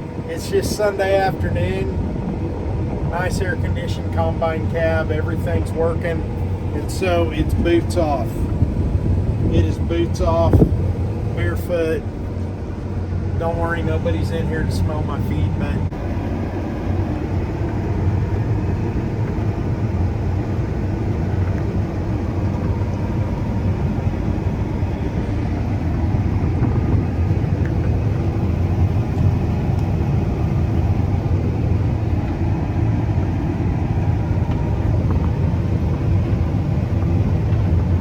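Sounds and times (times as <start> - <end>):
combine harvester hum from cab: 0.0 - 38.0.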